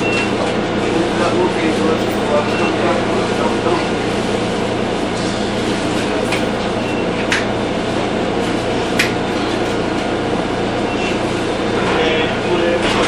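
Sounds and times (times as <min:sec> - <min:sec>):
trolley car rumble and hum: 0:00.0 - 0:13.0.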